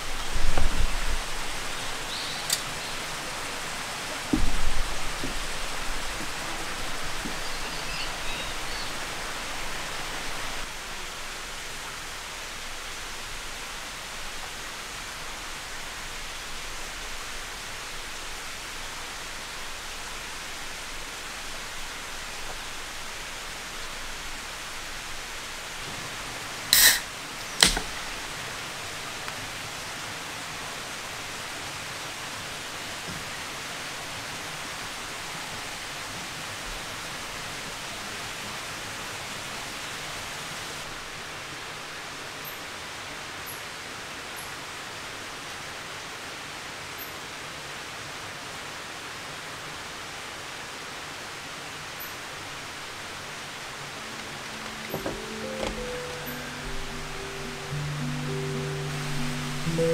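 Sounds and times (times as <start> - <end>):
outdoor ambient hiss: 0.0 - 59.9.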